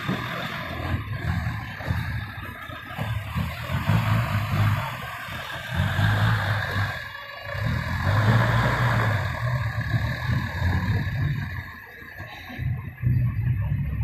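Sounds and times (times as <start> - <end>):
dump truck engine surging: 0.0 - 14.0.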